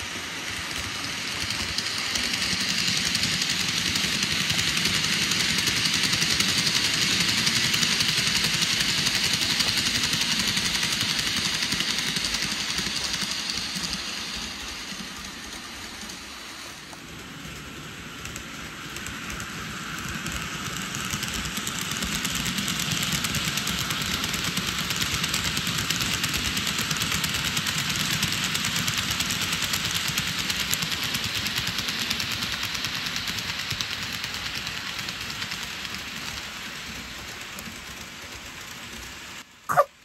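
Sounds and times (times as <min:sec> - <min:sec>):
model train running on track: 0:00.0 - 0:40.0.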